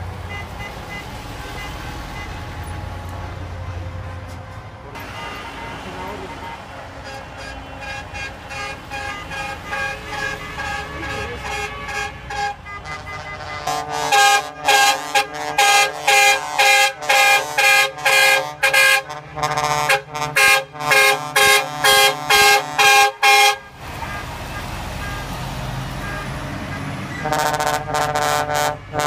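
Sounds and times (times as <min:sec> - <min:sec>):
bus air horns honking: 0:00.2 - 0:29.0.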